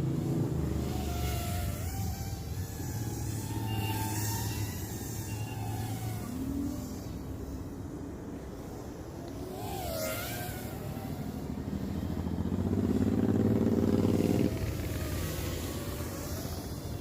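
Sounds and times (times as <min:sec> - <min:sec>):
quadcopter motors buzzing: 0:00.0 - 0:17.0.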